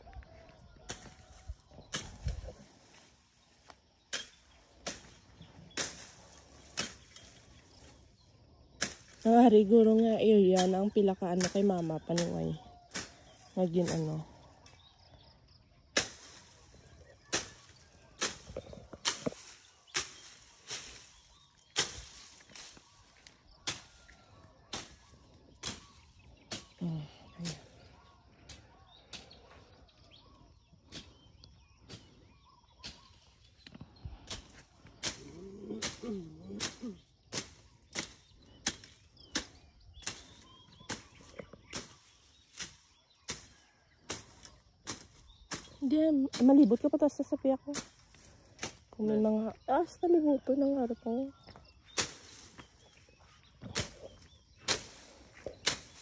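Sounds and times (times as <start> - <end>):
crunching strokes in grass: 0.0 - 50.1, 51.1 - 56.0
faint outdoor background: 0.0 - 56.0.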